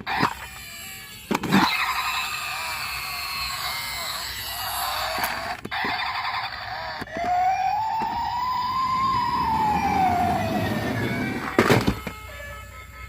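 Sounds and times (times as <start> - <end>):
emergency vehicle siren wailing: 1.3 - 13.0.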